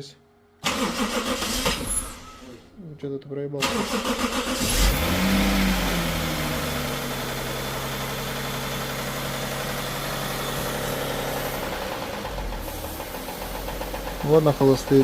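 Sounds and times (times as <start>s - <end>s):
engine starting and idling: 0.6s - 2.7s, 3.6s - 15.0s.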